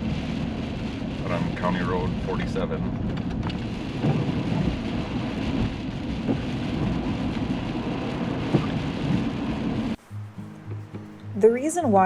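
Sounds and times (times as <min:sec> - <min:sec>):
low rumble: 0:00.0 - 0:10.1
steady rain: 0:00.0 - 0:11.8.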